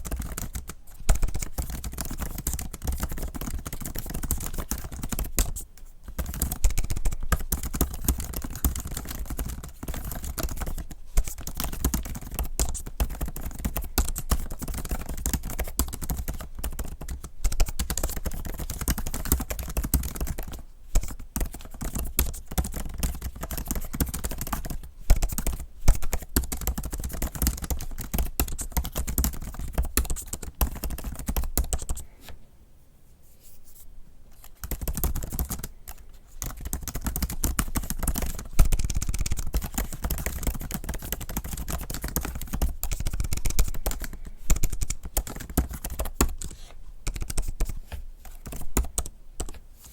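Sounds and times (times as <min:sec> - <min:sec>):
fast typing on laptop keyboard: 0:00.0 - 0:32.1, 0:34.4 - 0:49.9.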